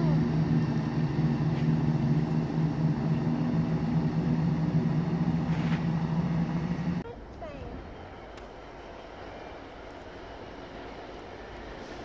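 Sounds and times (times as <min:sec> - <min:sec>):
train diesel engines droning: 0:00.0 - 0:12.0.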